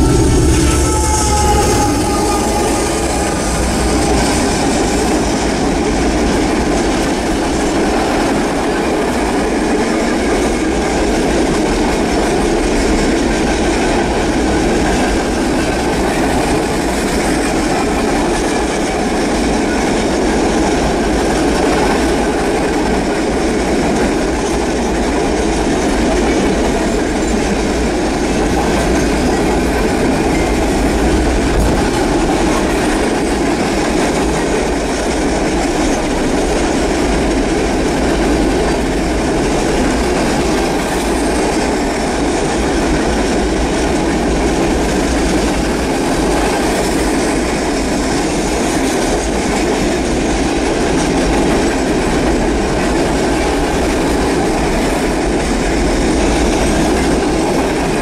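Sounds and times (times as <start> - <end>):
train wheels rolling on rail: 0.0 - 58.0.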